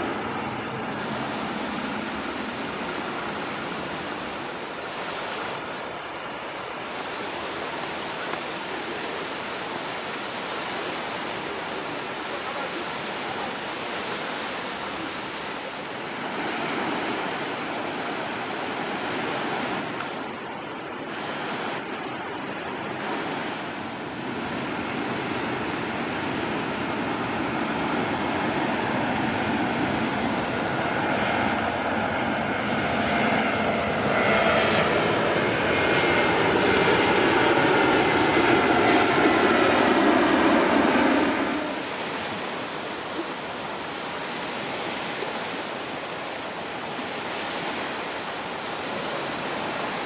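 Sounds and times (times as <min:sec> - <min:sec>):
jet engines approaching: 0:00.0 - 0:50.0
surf washing on beach: 0:00.0 - 0:50.0.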